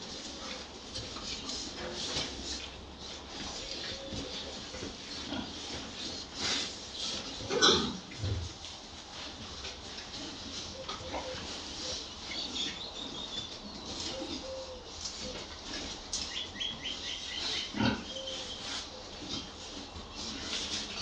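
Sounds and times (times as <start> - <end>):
pigs grunting and snuffling: 0.0 - 21.0.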